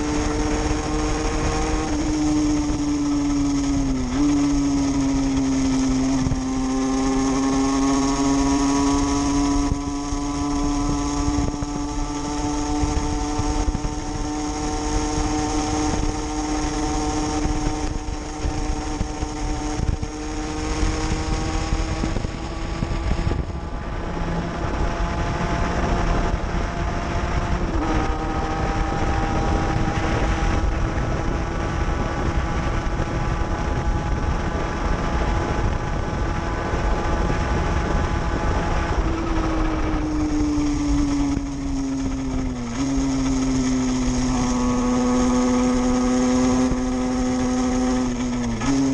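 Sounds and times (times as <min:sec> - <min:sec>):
two-stroke motorcycle engine: 0:00.0 - 0:48.9
wind and road rush: 0:00.0 - 0:48.9.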